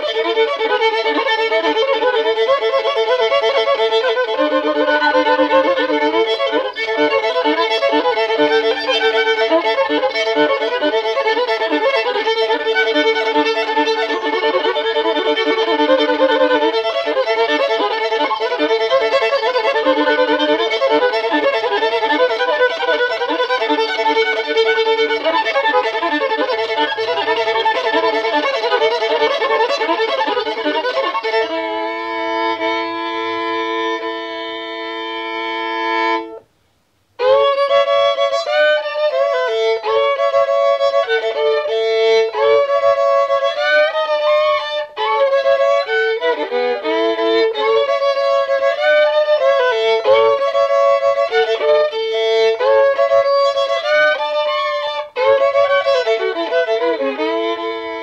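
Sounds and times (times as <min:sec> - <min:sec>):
bowed fiddle playing: 0:00.0 - 0:36.5, 0:37.2 - 0:58.0.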